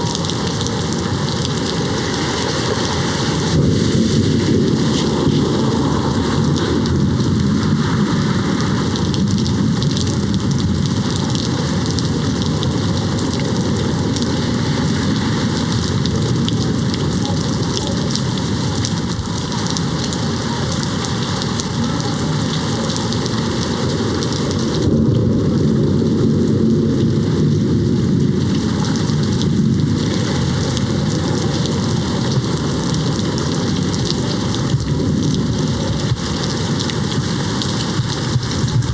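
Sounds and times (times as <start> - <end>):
distant thunder rumble: 0.0 - 38.9
heavy rain pattering on a window: 0.0 - 38.9.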